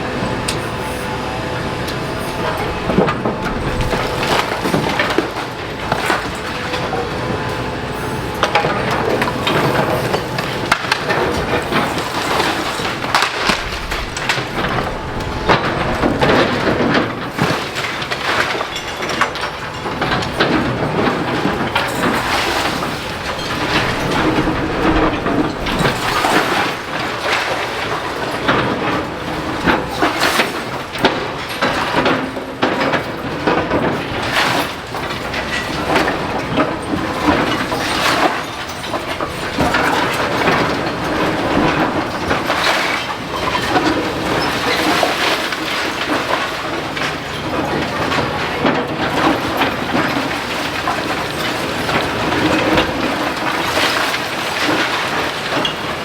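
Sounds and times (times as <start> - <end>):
falling masonry crashing: 1.5 - 56.0.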